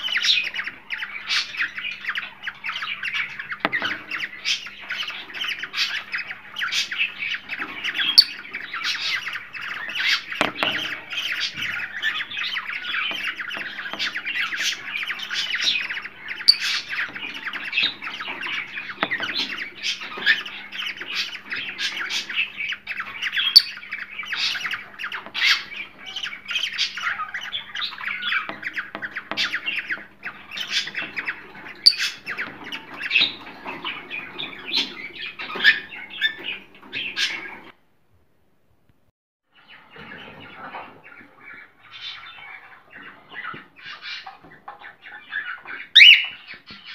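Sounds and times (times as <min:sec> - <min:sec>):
birds squawking and chattering: 0:00.0 - 0:37.8, 0:39.5 - 0:46.9.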